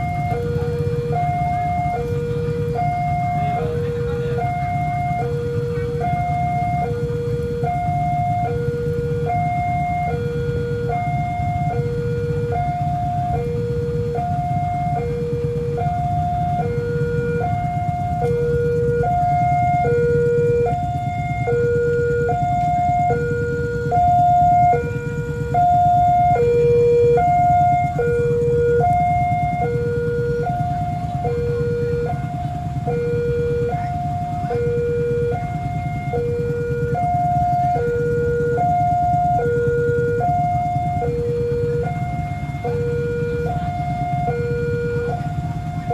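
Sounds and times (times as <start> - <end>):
two-tone crossing alarm chime: 0.0 - 45.9.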